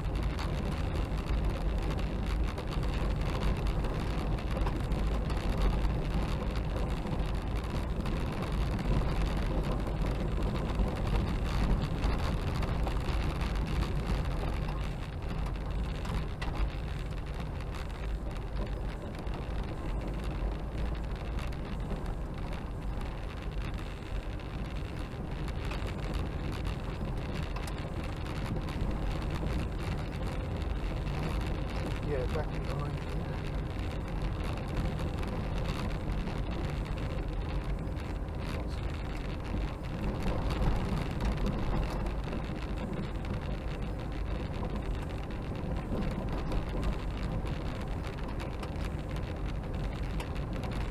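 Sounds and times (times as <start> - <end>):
low engine hum: 0.0 - 50.9
tyre and road noise: 0.0 - 50.9.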